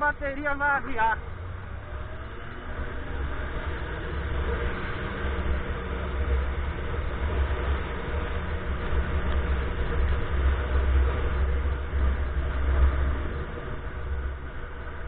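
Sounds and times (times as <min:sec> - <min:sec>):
heavy low rumble: 0:00.0 - 0:15.0
motorcycle riding: 0:00.0 - 0:15.0.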